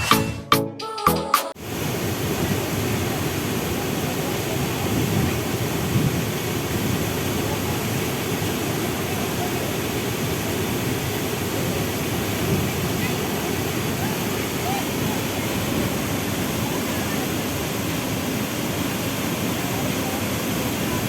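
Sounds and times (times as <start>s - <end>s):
waterfall roaring: 1.6s - 21.0s.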